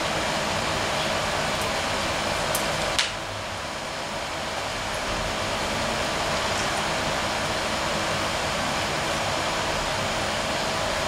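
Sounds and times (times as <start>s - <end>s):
air conditioner hiss: 0.0s - 11.0s.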